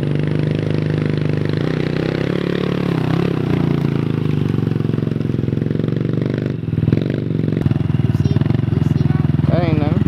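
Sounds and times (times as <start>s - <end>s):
mini dirt bike engine running: 0.0s - 10.0s.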